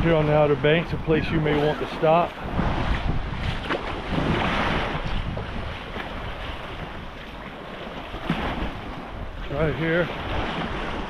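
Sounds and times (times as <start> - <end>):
small waves washing on sand: 0.0 - 11.0
wind buffeting microphone: 0.0 - 11.0.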